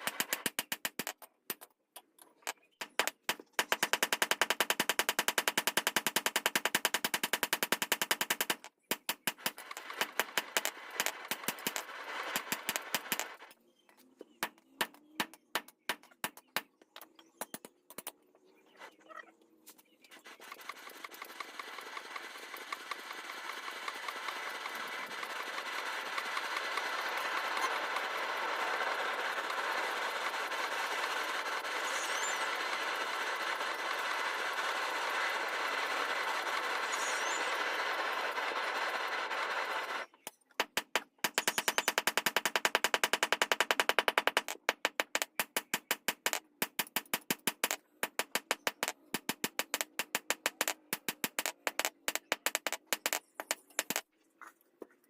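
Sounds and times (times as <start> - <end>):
machine running with fast rattle: 0.0 - 1.1, 2.8 - 13.5, 20.1 - 54.0.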